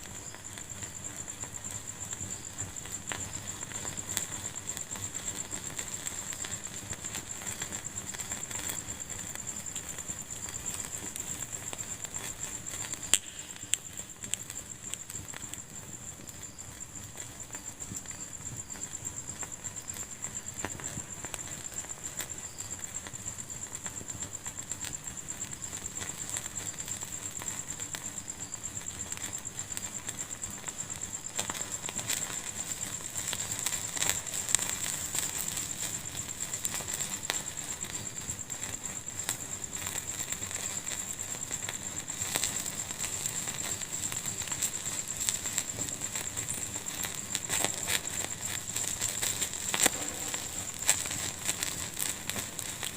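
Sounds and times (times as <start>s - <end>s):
fire crackling in fireplace: 0.0s - 52.9s.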